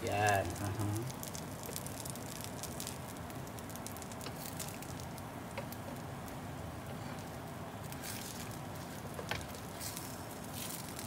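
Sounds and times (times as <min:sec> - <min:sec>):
batter sizzling in a frying pan: 0:00.0 - 0:11.0.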